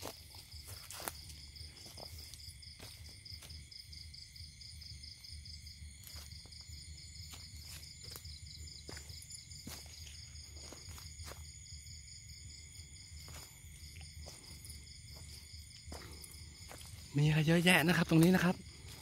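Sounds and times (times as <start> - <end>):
insect chorus chirring: 0.0 - 19.0.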